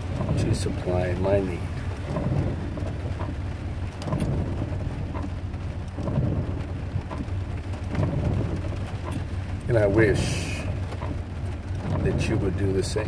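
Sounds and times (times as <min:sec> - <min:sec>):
low rumbling inside car: 0:00.0 - 0:13.0.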